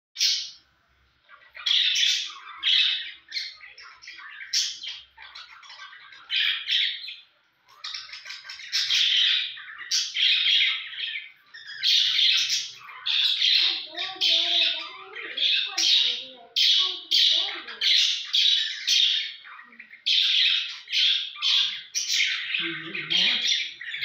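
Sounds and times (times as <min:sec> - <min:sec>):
budgerigars squawking and warbling: 0:00.2 - 0:00.6, 0:01.2 - 0:24.0.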